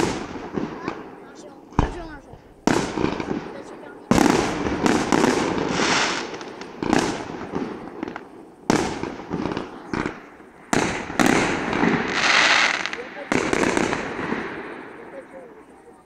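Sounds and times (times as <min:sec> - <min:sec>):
firework shells bursting: 0:00.0 - 0:15.4.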